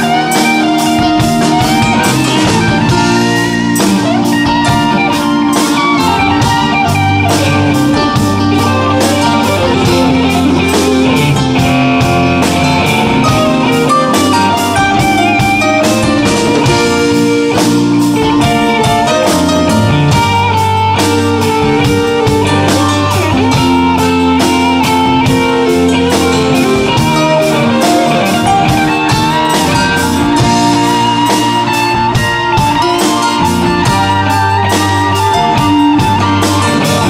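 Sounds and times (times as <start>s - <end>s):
bass guitar: 0.0s - 37.0s
drum kit: 0.0s - 37.0s
electric guitar lead line: 0.0s - 37.0s.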